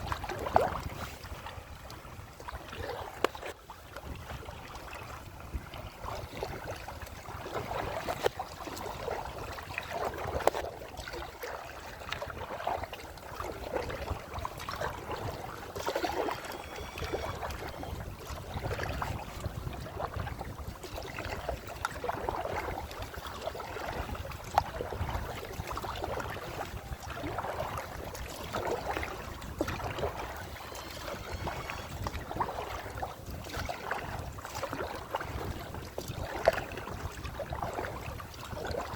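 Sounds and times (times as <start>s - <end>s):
paddle splashing in water: 0.0s - 38.9s
wind rumbling on microphone: 0.0s - 38.9s.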